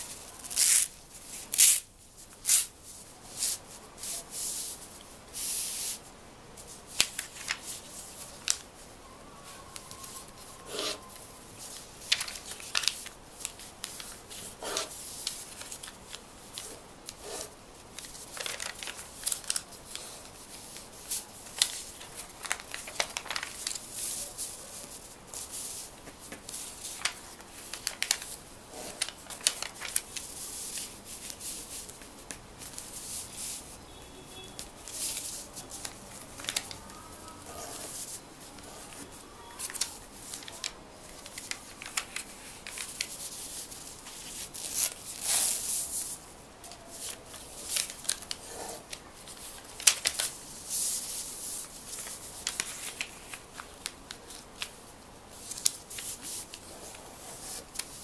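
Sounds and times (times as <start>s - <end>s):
paper being folded and creased: 6.9s - 8.6s, 9.7s - 32.0s, 34.8s - 58.0s.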